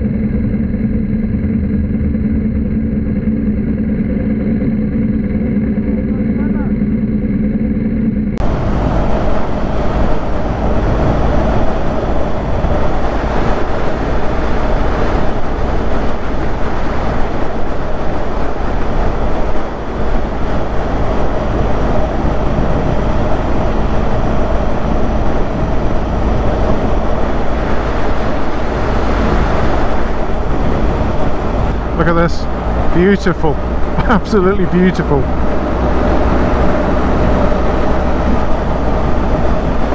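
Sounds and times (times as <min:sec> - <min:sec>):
motorcycle engine: 0:00.0 - 0:39.9
muffled low hum: 0:00.0 - 0:39.9
wind and road noise: 0:00.0 - 0:39.9.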